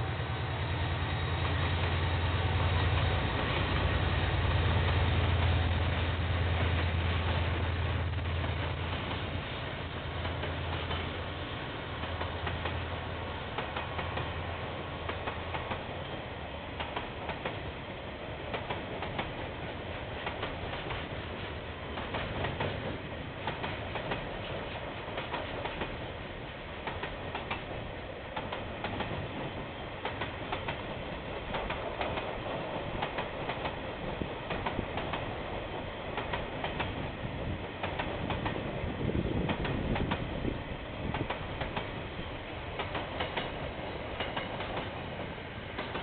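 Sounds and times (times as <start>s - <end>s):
train wheels clicking over rail joints: 6.5s - 46.0s.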